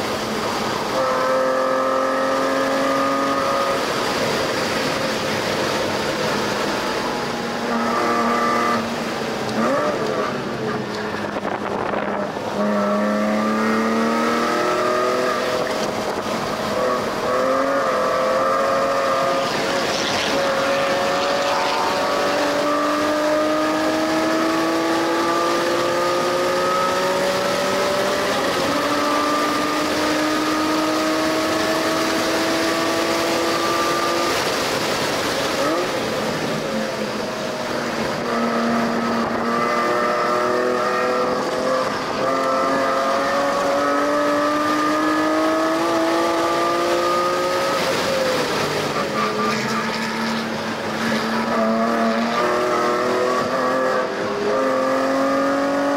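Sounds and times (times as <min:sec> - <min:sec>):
car engine accelerating hard: 0:00.0 - 0:55.9.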